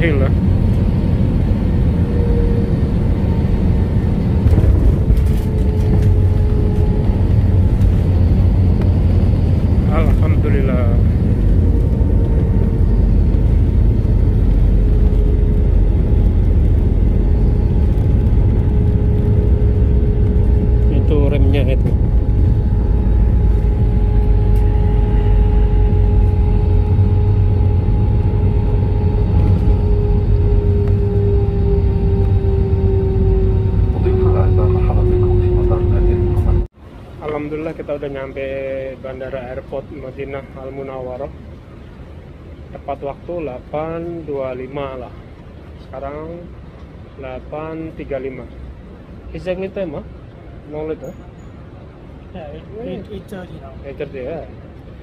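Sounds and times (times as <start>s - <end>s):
airliner cabin rumble: 0.0s - 49.2s
faint steady whine: 0.0s - 55.0s.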